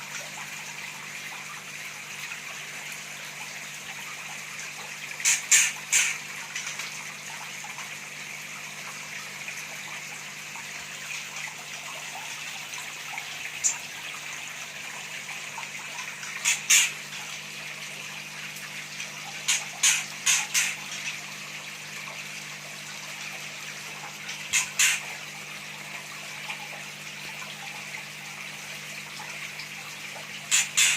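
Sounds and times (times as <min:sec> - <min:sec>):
trickling water: 0:00.0 - 0:30.9.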